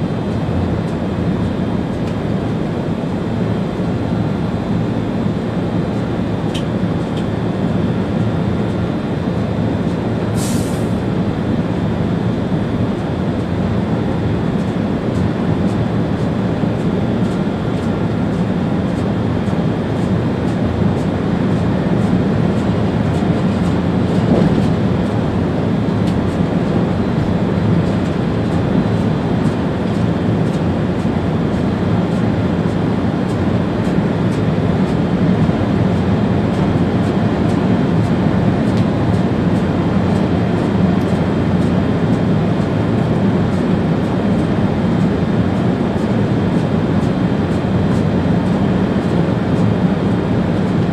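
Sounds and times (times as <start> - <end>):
train cab rumble: 0.0 - 50.9.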